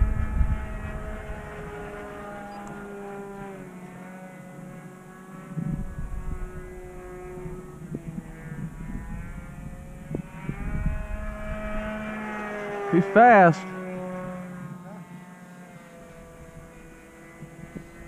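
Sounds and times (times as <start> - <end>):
model airplane engine passing: 0.0 - 18.0.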